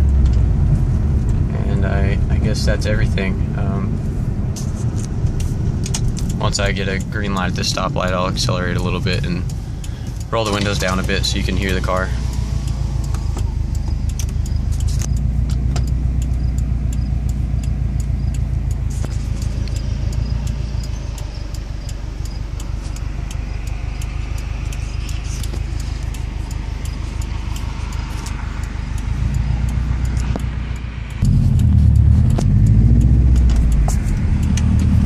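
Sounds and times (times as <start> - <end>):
car engine idling: 0.0 - 35.0
rapid light ticking: 4.6 - 35.0.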